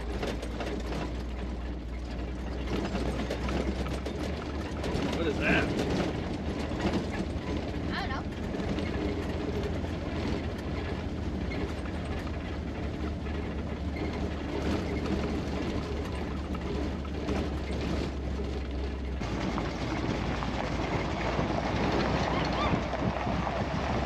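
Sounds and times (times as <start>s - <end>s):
truck body rattling and clicking: 0.0s - 24.0s
tyres crunching on gravel: 0.0s - 24.0s
vehicle low drone: 0.0s - 24.0s.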